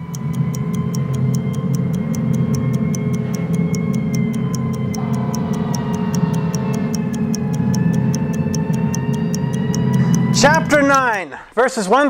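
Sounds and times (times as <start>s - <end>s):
low sustained drone: 0.0s - 11.1s
clock-like ticking: 0.0s - 11.2s
held tones: 0.0s - 11.2s.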